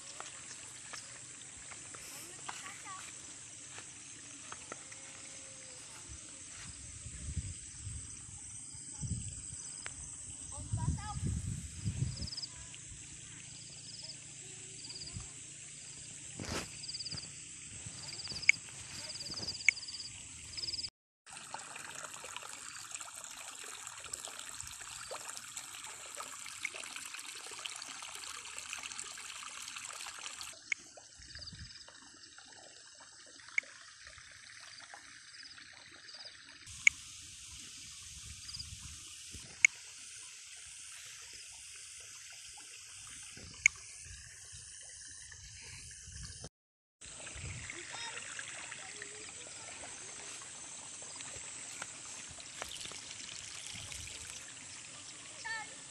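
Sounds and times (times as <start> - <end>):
water trickling: 0.0 - 46.4, 47.0 - 55.9.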